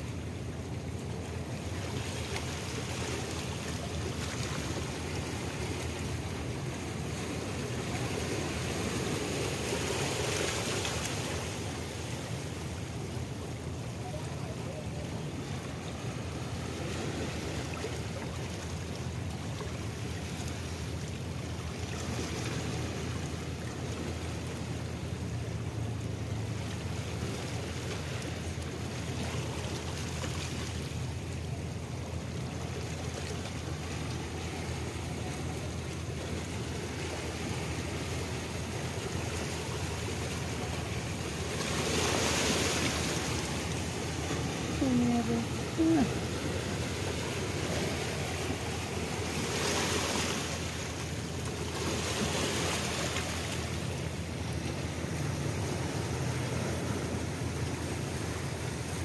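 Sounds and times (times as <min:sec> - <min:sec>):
small waves washing ashore: 0:00.0 - 0:59.0.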